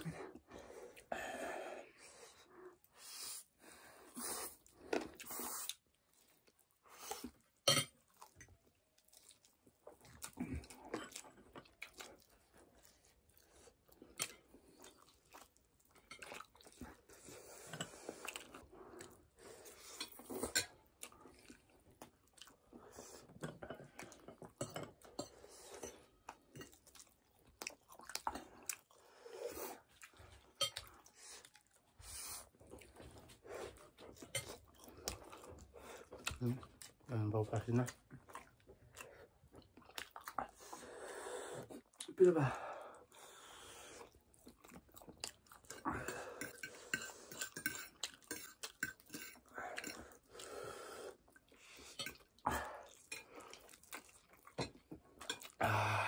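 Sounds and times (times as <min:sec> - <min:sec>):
people chewing and biting food: 0:00.0 - 0:37.1, 0:37.7 - 0:42.2, 0:43.0 - 0:56.0.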